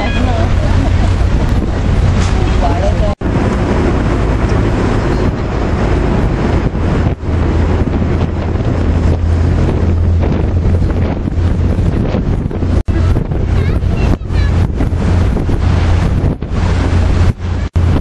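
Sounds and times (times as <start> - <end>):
boat engine droning: 0.0 - 18.0
wind buffeting microphone: 0.0 - 18.0.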